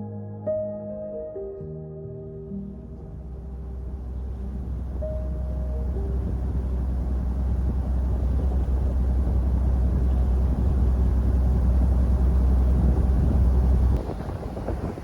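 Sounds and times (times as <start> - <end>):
vehicle engine rumbling: 2.6 - 15.0.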